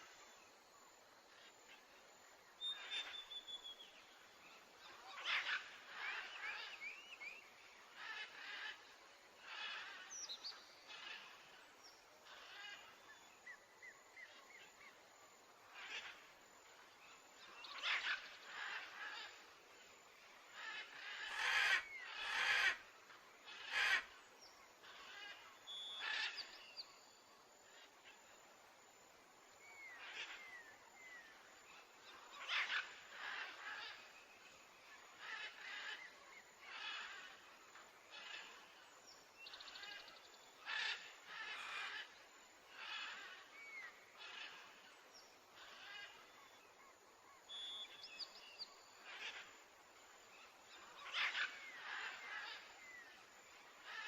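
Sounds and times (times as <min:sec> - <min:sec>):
bird calls and chirps: 0:01.3 - 0:15.0, 0:15.6 - 0:28.4, 0:29.6 - 0:54.0.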